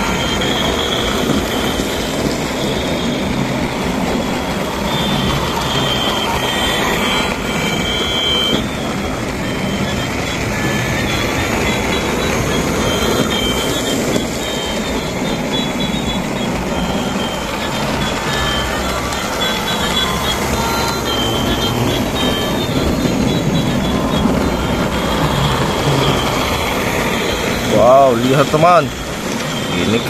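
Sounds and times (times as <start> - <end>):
short high electronic beeps: 0.0 - 30.0
toy train motor whir: 0.0 - 30.0
wheels rattling on track: 0.0 - 30.0.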